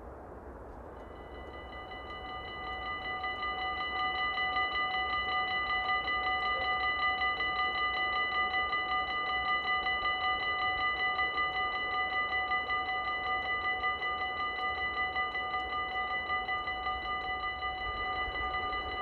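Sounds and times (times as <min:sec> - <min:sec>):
level crossing warning bell: 0:00.9 - 0:19.0.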